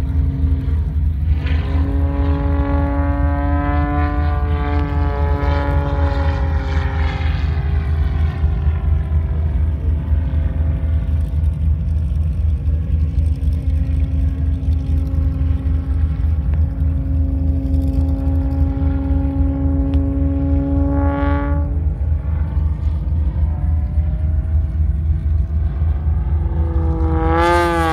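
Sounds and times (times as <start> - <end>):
propeller plane droning overhead: 0.0 - 27.9
steady low rumble: 0.0 - 27.9.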